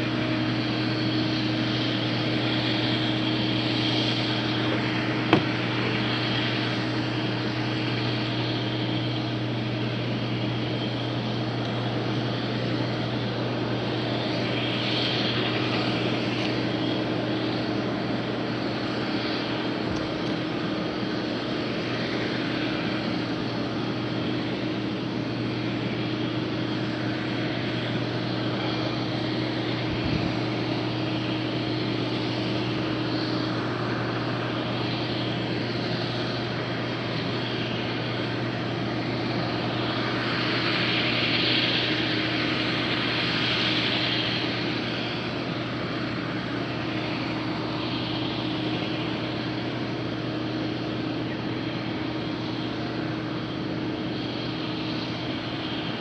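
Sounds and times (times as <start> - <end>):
combine engine drone: 0.0 - 56.0.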